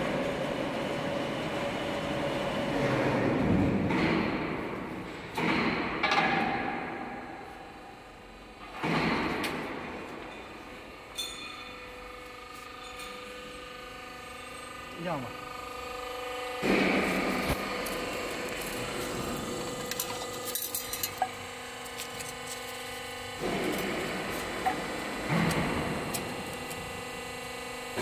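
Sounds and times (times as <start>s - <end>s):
machine line hum and rumble: 0.0s - 28.0s.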